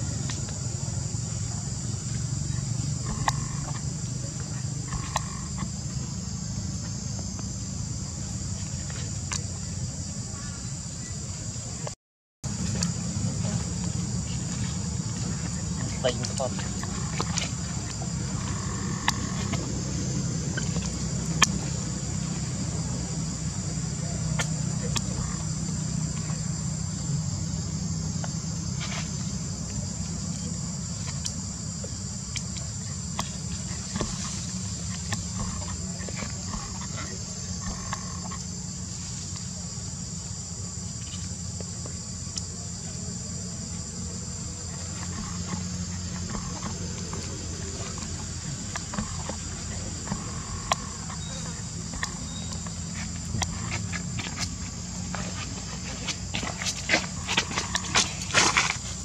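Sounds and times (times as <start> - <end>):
insect chorus: 0.0 - 59.0
low steady hum: 0.0 - 59.0.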